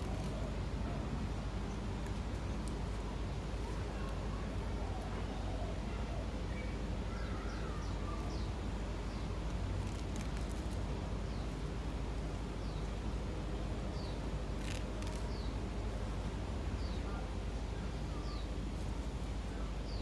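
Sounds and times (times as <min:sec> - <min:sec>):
birds chirping faintly: 0:00.0 - 0:16.0, 0:16.7 - 0:20.0
low outdoor rumble: 0:00.0 - 0:20.0.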